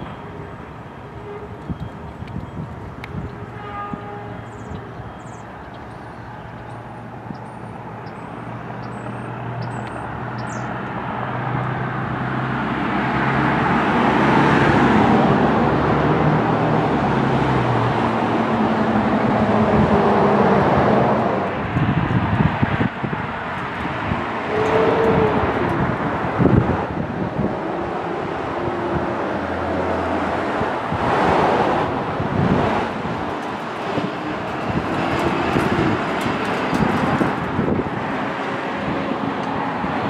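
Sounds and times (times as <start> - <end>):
passing vehicles engine and tyre noise: 0.0 - 40.0.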